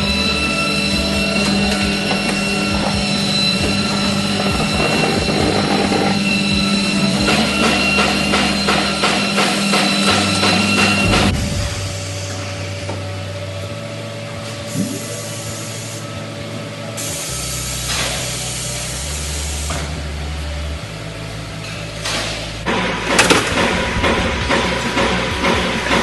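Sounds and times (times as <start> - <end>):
factory machinery humming: 0.0 - 26.0.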